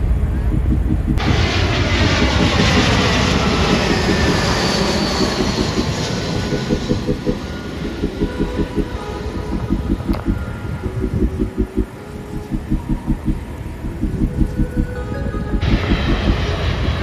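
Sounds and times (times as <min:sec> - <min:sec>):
jet airliner roar and whine: 0:00.0 - 0:17.0.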